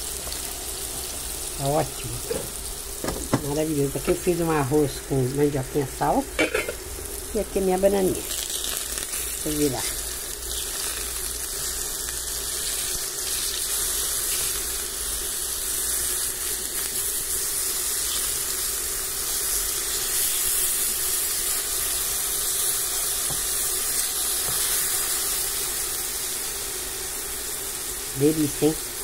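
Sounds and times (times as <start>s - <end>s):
bananas sizzling in hot oil: 0.0s - 29.0s.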